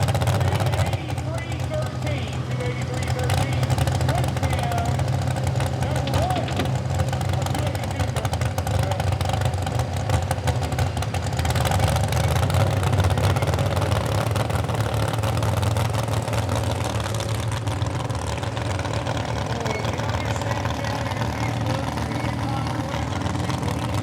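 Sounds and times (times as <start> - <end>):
engine running at full throttle: 0.0 - 24.0.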